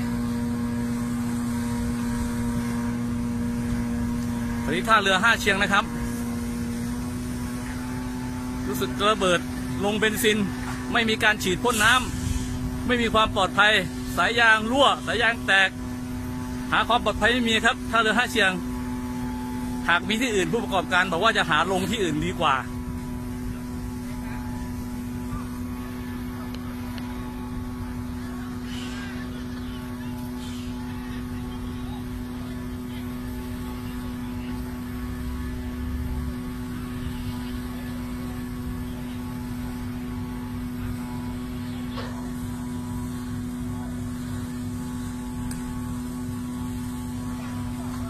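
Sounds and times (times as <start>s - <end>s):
engine droning steadily: 0.0s - 48.0s.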